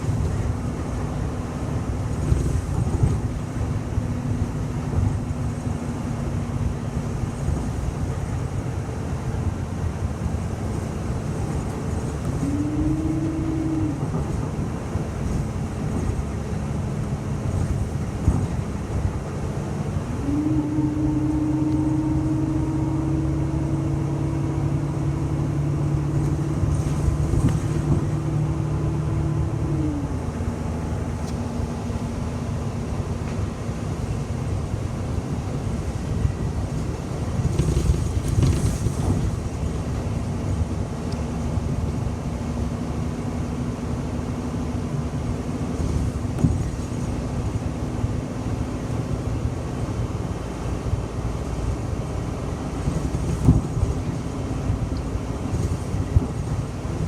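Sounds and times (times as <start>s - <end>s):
bus engine and road rumble: 0.0s - 57.0s
drivetrain whine: 0.0s - 57.0s.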